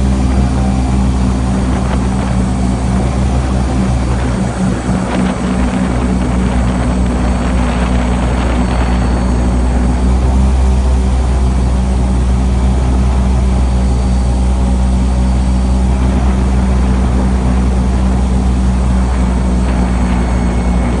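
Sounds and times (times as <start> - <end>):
airboat engine and propeller: 0.0 - 21.0.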